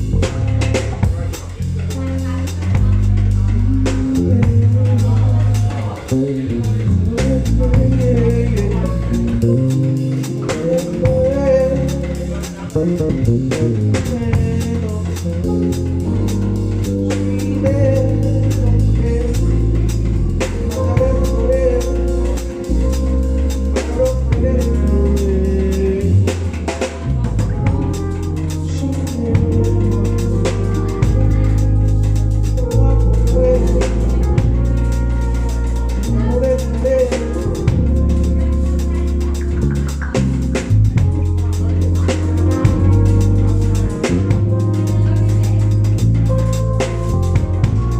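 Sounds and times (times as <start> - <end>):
bass line: 0.0 - 47.9
drum kit beat: 0.0 - 47.9
guitar or keyboard chords: 0.0 - 47.9.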